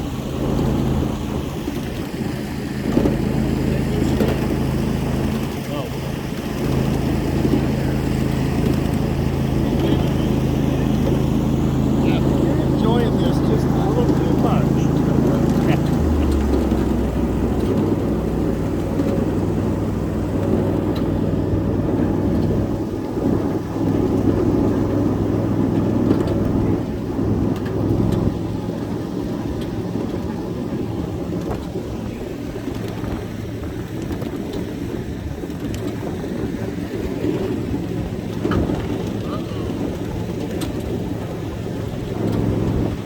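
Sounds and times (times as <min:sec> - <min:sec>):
miniature train rumbling: 0:00.0 - 0:43.0
wheels clicking on rail: 0:00.0 - 0:43.0.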